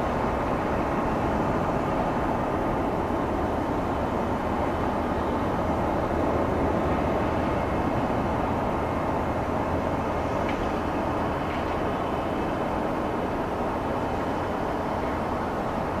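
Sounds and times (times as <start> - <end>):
jet engines rumbling at takeoff: 0.0 - 16.0.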